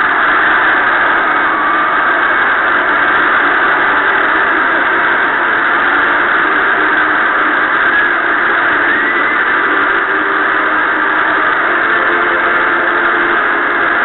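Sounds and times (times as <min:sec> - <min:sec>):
crowd roaring over radio: 0:00.0 - 0:14.0.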